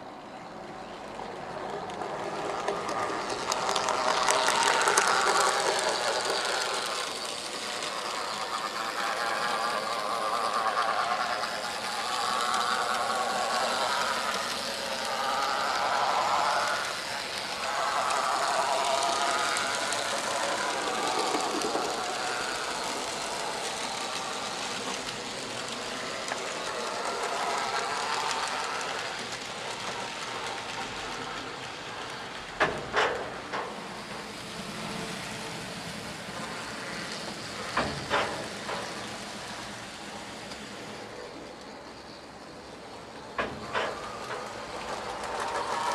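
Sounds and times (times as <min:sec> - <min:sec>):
model locomotive motor whirring: 0:00.0 - 0:45.9
wheels rattling on rail: 0:00.0 - 0:45.9.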